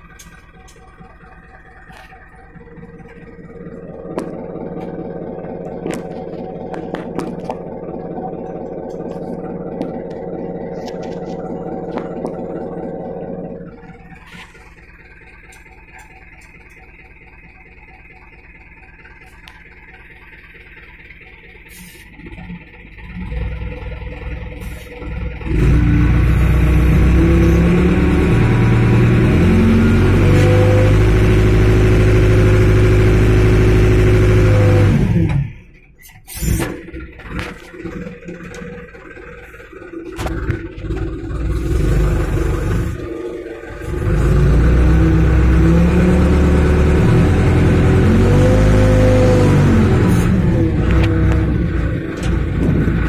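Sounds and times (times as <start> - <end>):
clatter: 0.0 - 53.0
crane engine revving: 0.0 - 53.0.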